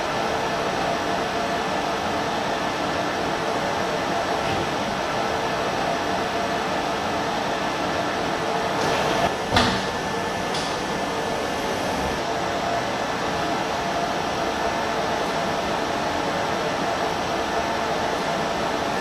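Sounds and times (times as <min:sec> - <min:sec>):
laundry machinery humming: 0:00.0 - 0:19.0.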